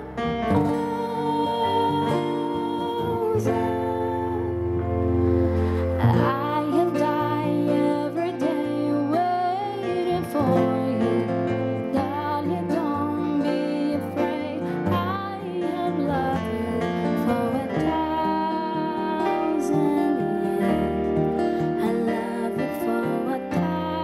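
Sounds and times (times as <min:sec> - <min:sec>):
long held instrumental chords: 0:00.0 - 0:24.0
woman singing slow melody: 0:00.0 - 0:24.0.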